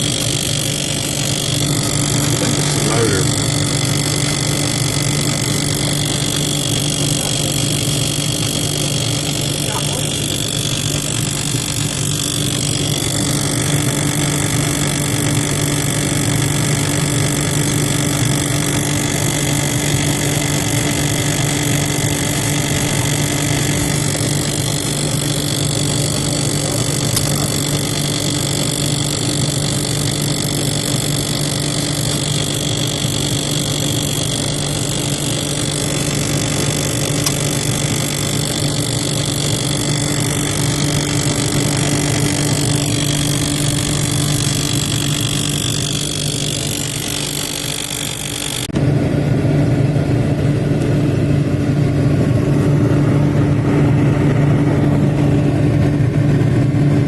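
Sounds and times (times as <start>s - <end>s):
refrigerator humming with high whine: 0.0s - 57.0s.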